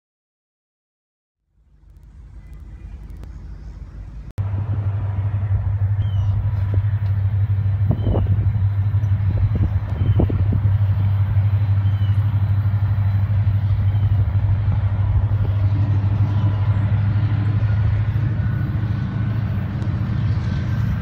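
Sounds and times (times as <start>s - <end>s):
distant diesel locomotives droning: 1.5s - 21.0s.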